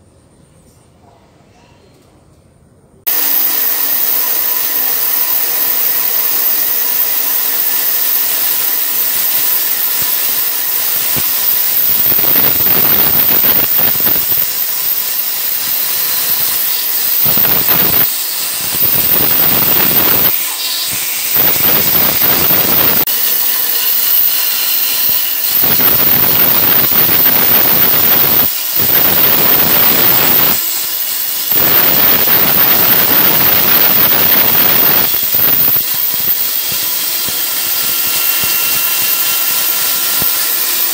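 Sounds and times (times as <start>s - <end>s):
band saw cutting wood: 3.1s - 40.9s.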